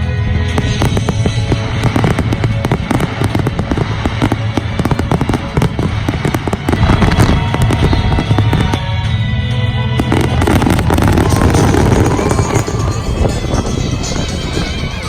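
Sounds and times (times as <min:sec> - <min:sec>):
fireworks popping and banging: 0:00.0 - 0:15.0
music: 0:00.0 - 0:15.0.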